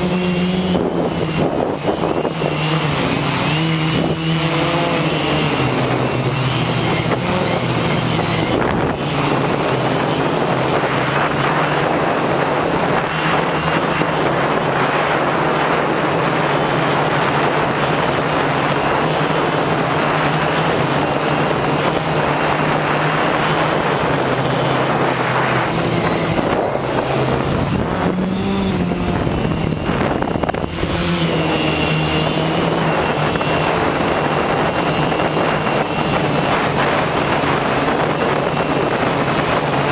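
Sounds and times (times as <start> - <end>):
drone motors whining: 0.0 - 39.9
wind rush: 0.0 - 39.9.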